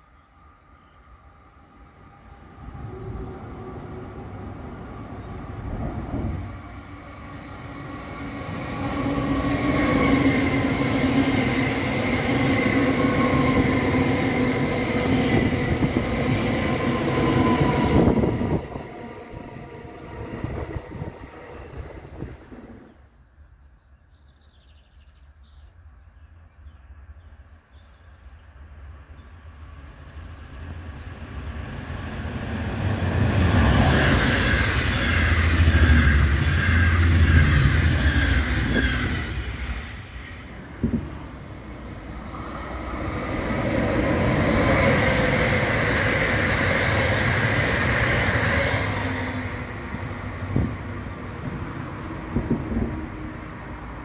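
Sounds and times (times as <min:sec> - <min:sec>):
train passing with high whine: 0:00.0 - 0:23.8, 0:24.9 - 0:54.0
train passing with low rumble: 0:00.0 - 0:54.0.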